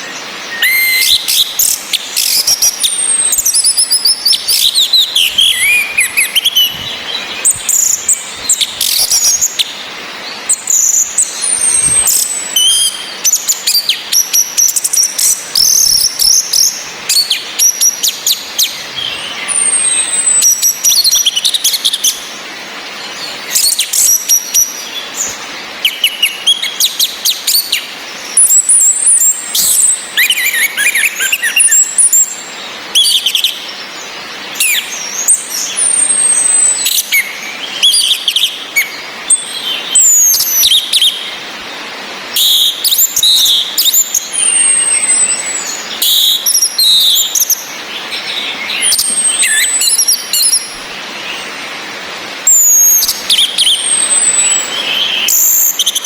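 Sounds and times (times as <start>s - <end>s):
thrushes chirping and whistling: 0.0s - 22.4s, 23.0s - 41.4s, 42.3s - 51.5s, 52.5s - 56.0s.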